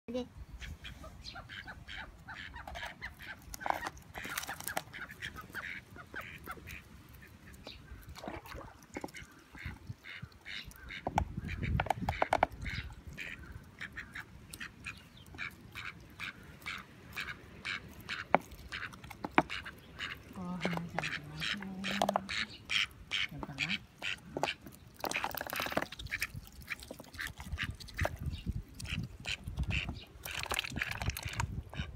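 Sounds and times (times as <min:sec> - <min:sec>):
ducks quacking: 0:00.6 - 0:31.9.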